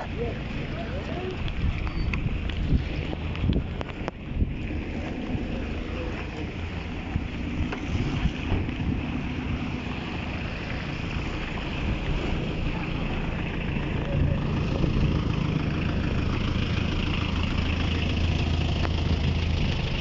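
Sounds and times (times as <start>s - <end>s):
heavy rain on wet road: 0.0s - 20.0s
vehicle engine idling: 0.0s - 20.0s.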